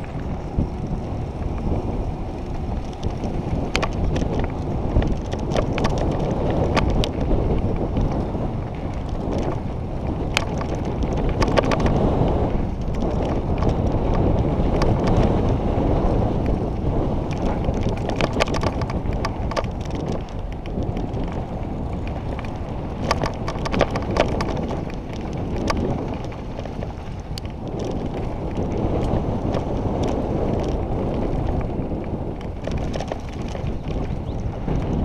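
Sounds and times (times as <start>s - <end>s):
bike clicks and rattles over stones: 0.0s - 35.0s
wind buffeting microphone: 0.0s - 35.0s.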